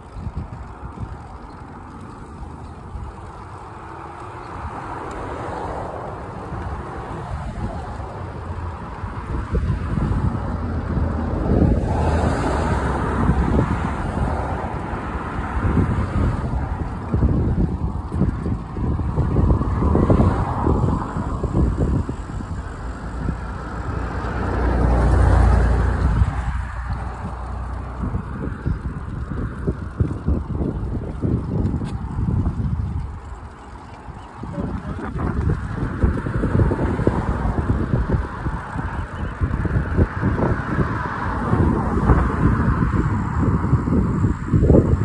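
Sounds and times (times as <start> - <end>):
cars passing on road: 0.0 - 45.0
wind rumble on microphone: 0.0 - 45.0.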